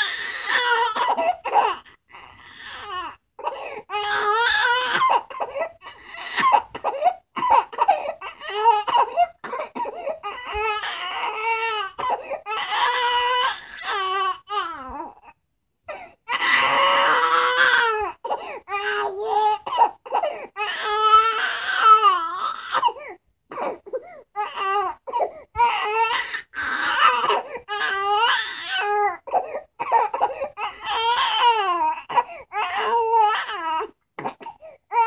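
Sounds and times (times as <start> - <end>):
baby crying: 0.0 - 35.0.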